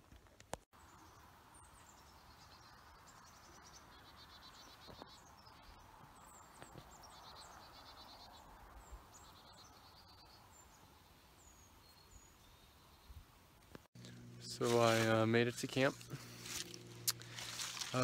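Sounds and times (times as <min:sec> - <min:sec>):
small birds calling: 0:00.8 - 0:18.0.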